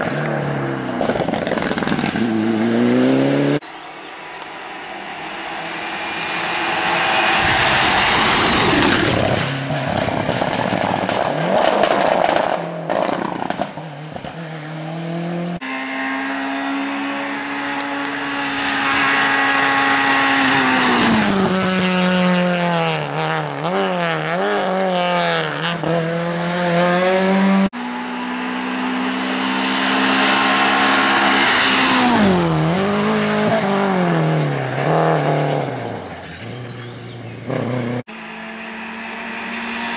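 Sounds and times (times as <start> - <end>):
rally cars passing: 0.0 - 39.9.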